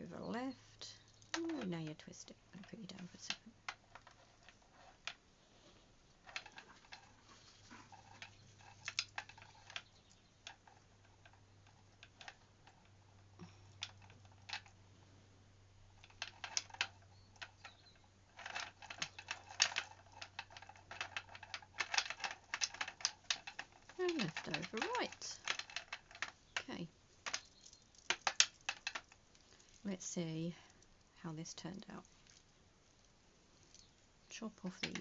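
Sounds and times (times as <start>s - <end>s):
beads clicking and tapping: 1.0s - 5.2s, 6.2s - 14.8s, 15.9s - 35.0s.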